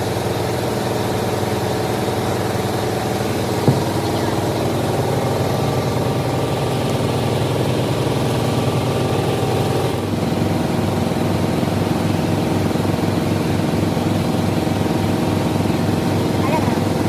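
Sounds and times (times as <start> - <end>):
lathe machine humming: 0.0 - 17.0.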